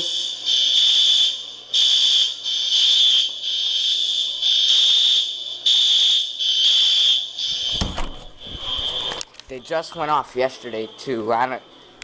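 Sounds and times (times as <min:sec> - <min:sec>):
fire alarms pulsing: 0:00.0 - 0:11.9.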